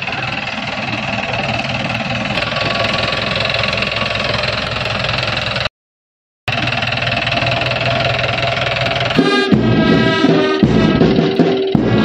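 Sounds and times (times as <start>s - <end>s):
jeep engine idling: 0.0s - 5.7s, 6.5s - 12.0s.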